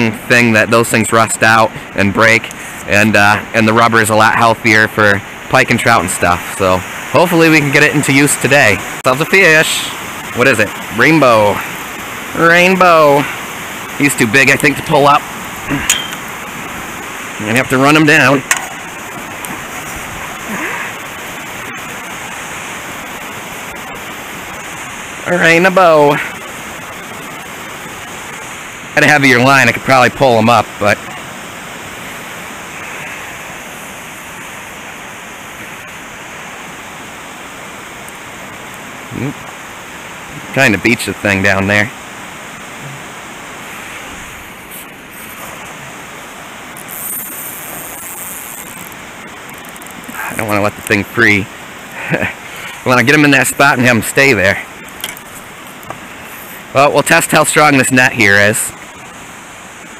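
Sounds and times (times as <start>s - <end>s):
water rushing over spillway: 0.0s - 59.9s.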